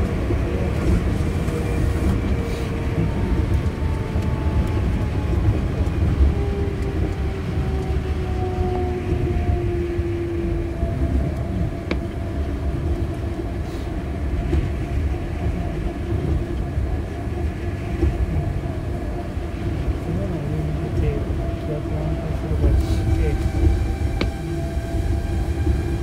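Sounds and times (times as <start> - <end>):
monorail train rumble: 0.0 - 26.0.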